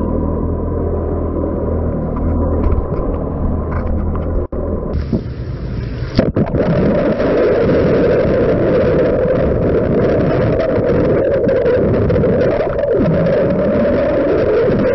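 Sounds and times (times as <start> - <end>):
boat motor running: 0.0 - 14.9
water rushing underwater: 2.6 - 14.9.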